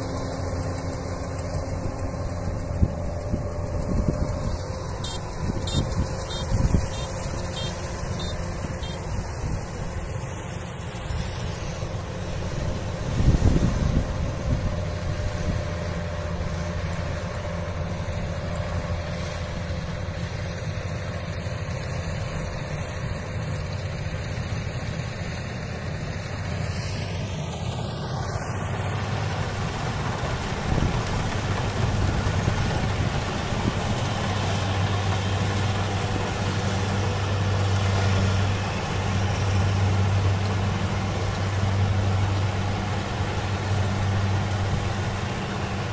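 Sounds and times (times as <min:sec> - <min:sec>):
combine harvester diesel engines: 0:00.0 - 0:45.9.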